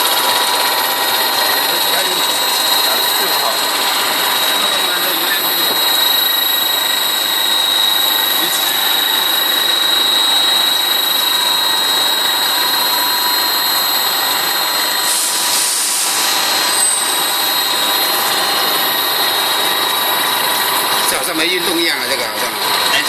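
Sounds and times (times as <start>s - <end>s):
machine with high whine: 0.0s - 23.0s.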